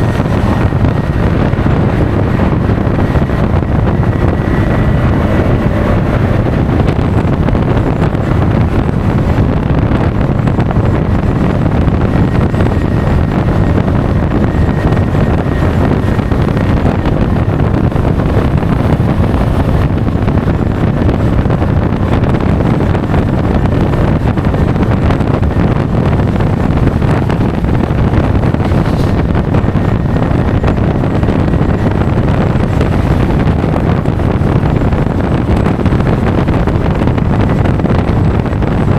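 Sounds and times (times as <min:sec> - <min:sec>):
scooter engine: 0:00.0 - 0:37.5
road noise: 0:00.0 - 0:38.9
wind buffeting microphone: 0:00.0 - 0:38.9.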